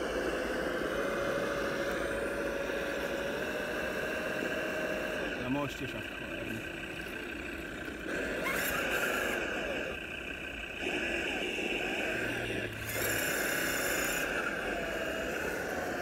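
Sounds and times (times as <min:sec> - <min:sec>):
electric motor and gears whining: 0:00.0 - 0:16.0.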